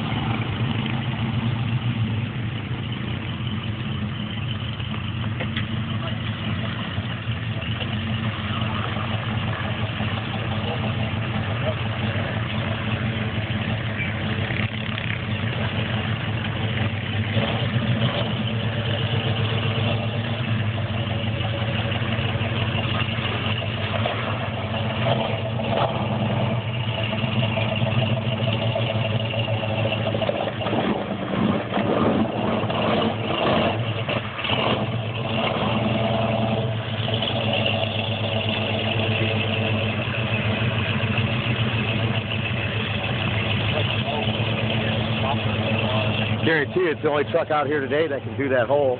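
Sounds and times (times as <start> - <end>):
pickup truck engine running: 0.0 - 48.9
engine revving: 5.4 - 48.9.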